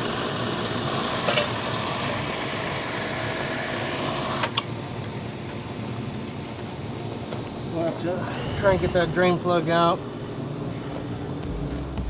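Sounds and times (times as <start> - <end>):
pool pump motor humming: 0.0 - 11.4.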